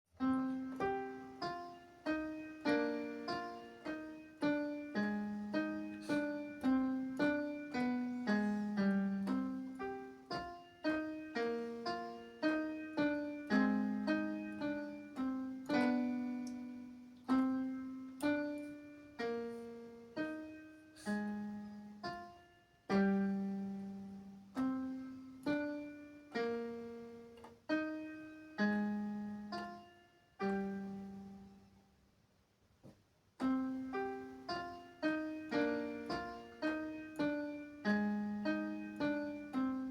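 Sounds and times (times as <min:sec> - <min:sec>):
gentle piano melody: 0:00.1 - 0:31.9, 0:33.4 - 0:39.9.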